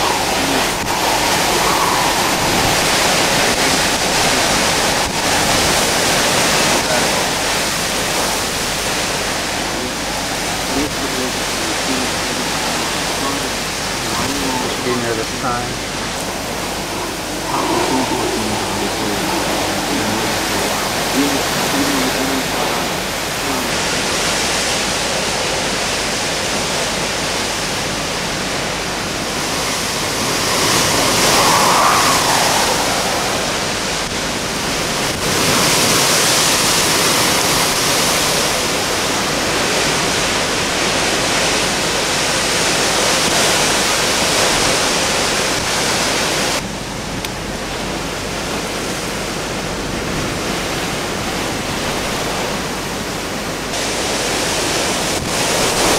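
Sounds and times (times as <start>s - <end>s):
driving rain: 0.0s - 55.9s
hurricane winds: 0.0s - 55.9s.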